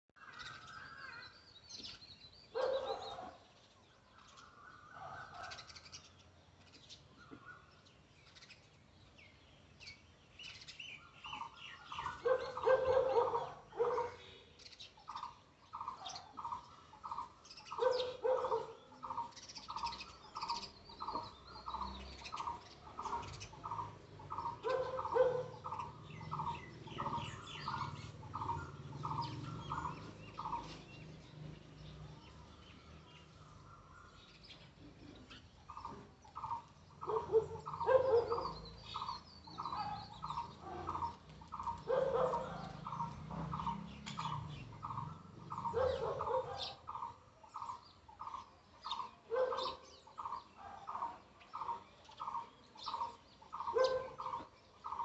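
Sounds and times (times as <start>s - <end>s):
sparrows chirping: 0.2s - 55.0s.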